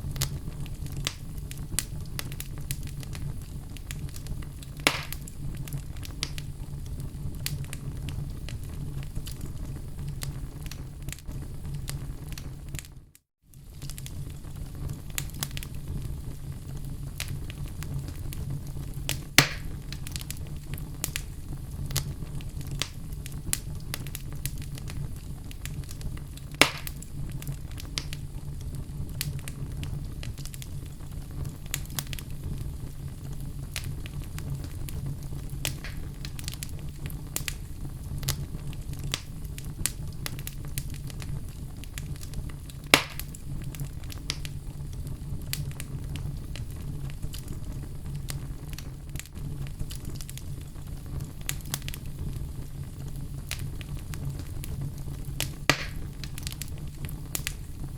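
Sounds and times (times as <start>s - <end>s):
loud pops of fire: 0.0s - 57.9s
wood fire crackling: 0.0s - 57.9s.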